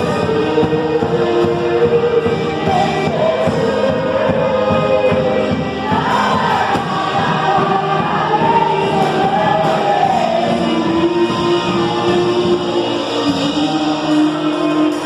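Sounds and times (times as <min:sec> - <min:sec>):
voices singing together: 0:00.0 - 0:15.0
worship band playing: 0:00.0 - 0:15.0.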